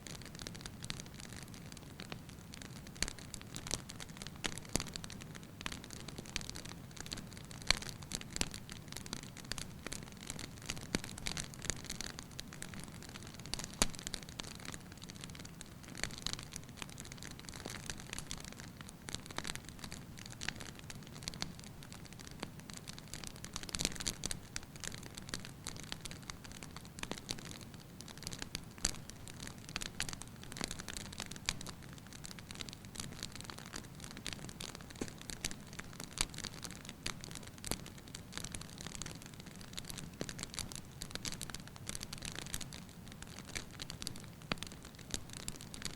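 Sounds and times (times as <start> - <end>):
low background noise: 0.0 - 45.9
wood fire crackling: 0.0 - 45.9.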